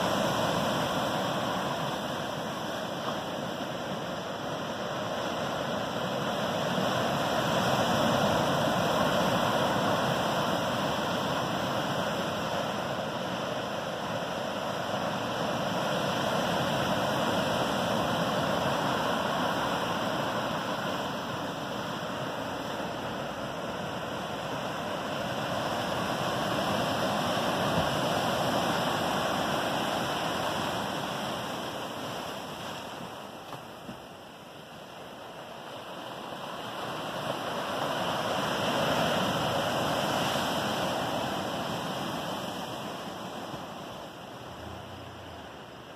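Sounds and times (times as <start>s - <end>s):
ocean surf on rocks: 0.0s - 45.9s.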